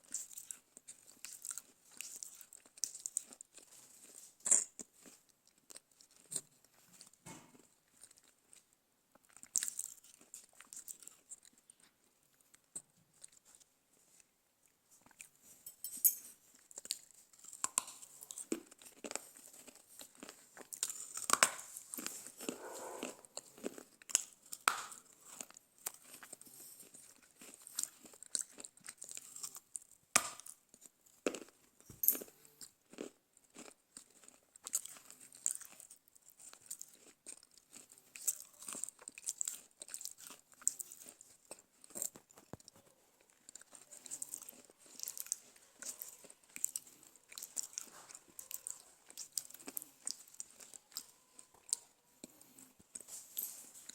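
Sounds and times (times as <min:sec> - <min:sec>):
dry clay being chewed: 0:00.0 - 0:53.9.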